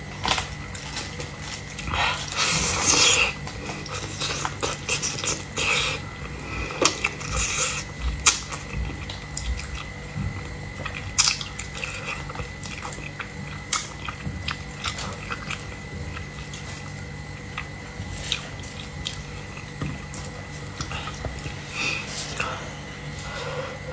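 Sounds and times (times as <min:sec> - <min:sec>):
person chewing and crunching: 0:00.0 - 0:23.9.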